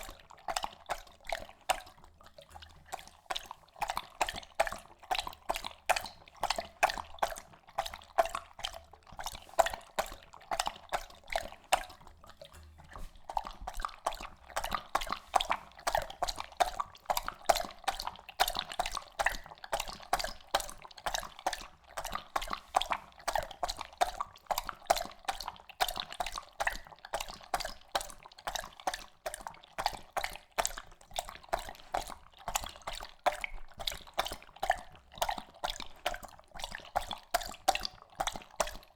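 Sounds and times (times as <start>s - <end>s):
dog lapping water: 0.0s - 38.9s.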